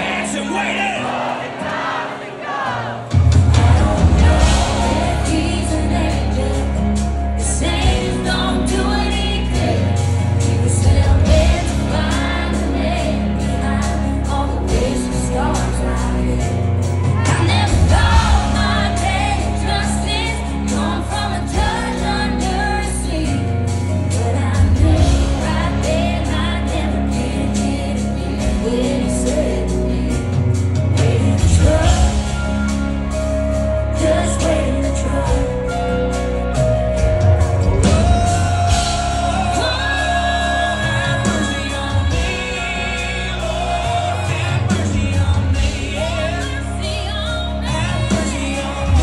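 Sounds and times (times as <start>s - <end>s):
live country-rock band: 0.0s - 49.0s
person singing: 0.0s - 49.0s.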